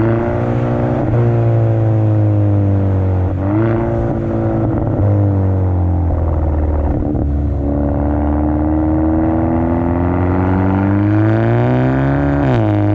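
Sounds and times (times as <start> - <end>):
car exhaust while driving: 0.0 - 12.9.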